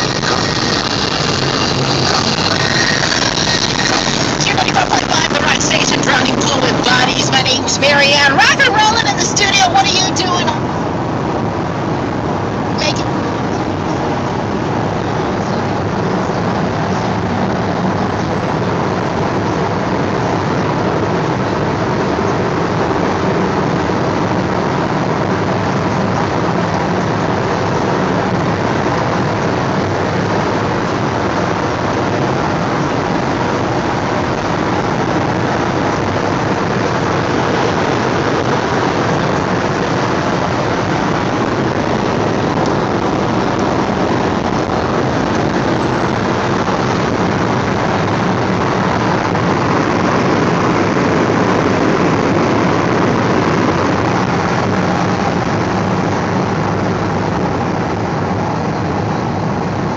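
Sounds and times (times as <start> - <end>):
car engine drone: 0.0 - 59.9
road and wind noise in car: 0.0 - 59.9.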